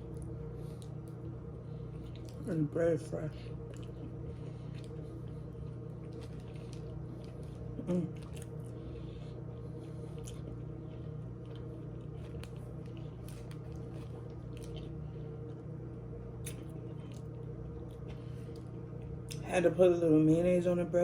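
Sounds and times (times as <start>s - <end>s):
chewing and wet mouth sounds: 0.0s - 19.5s
steady low hum: 0.0s - 21.0s.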